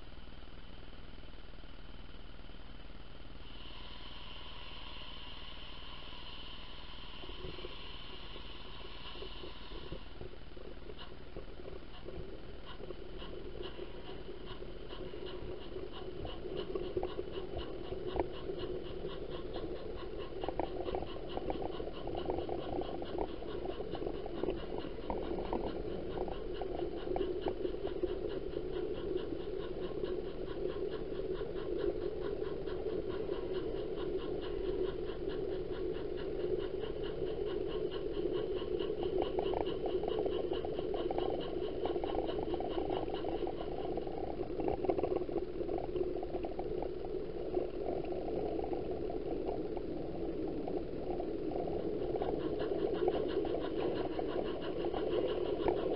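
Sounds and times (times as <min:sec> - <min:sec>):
model train whirring hum: 0:00.0 - 0:45.5.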